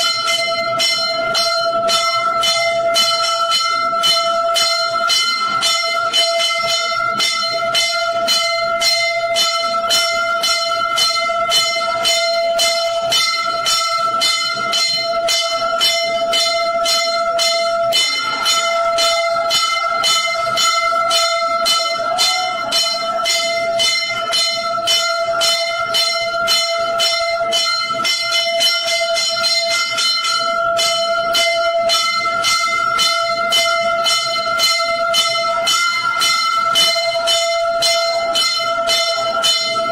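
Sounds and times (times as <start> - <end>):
temple bells ringing: 0.0 - 39.9.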